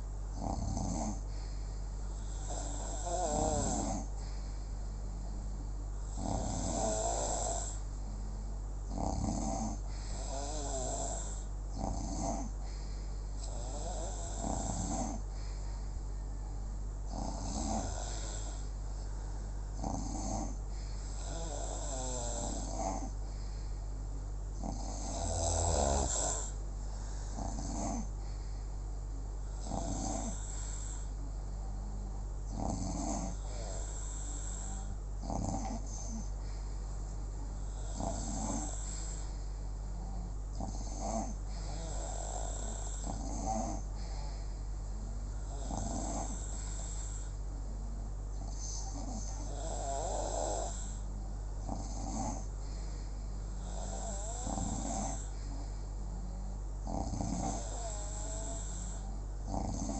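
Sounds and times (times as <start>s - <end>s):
slow regular snoring: 0.0s - 4.6s, 6.1s - 7.9s, 8.9s - 15.8s, 17.1s - 18.8s, 19.8s - 23.7s, 24.6s - 28.5s, 29.4s - 31.2s, 32.5s - 36.6s, 37.6s - 44.5s, 45.4s - 47.4s, 48.4s - 59.9s
steady low hum: 0.0s - 59.9s.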